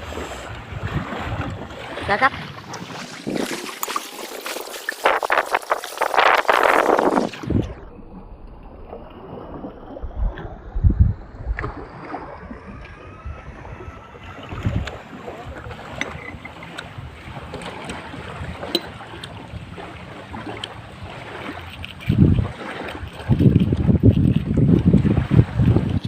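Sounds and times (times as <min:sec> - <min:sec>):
wind gusting on microphone: 0:00.0 - 0:08.0, 0:09.2 - 0:26.0
sea waves washing: 0:00.0 - 0:26.0.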